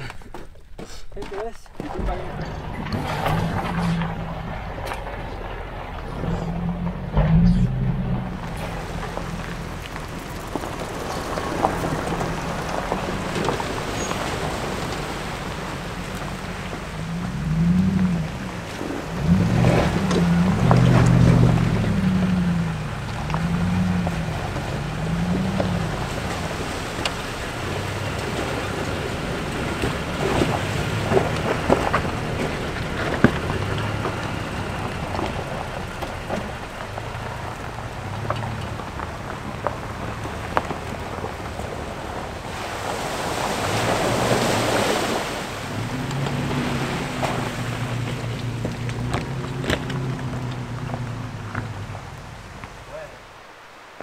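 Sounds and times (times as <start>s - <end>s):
tyres knocking over rocks: 0.0s - 52.8s
suv engine running: 0.0s - 54.0s
rush of water: 1.3s - 54.0s
tyres splashing through water: 1.3s - 54.0s.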